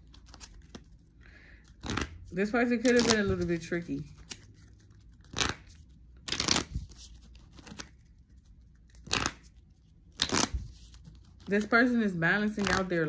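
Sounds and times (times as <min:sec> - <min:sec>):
cards being shuffled: 0:00.0 - 0:12.9.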